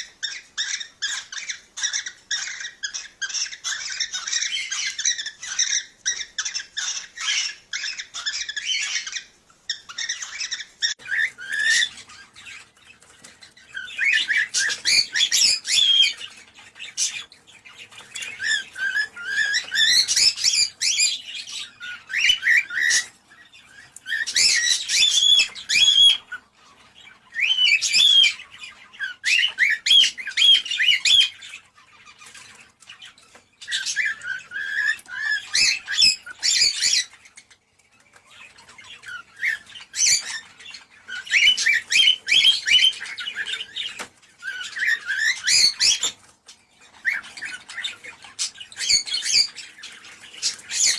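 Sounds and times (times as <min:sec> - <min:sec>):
cockatiels chirping and squawking: 0:00.0 - 0:50.9.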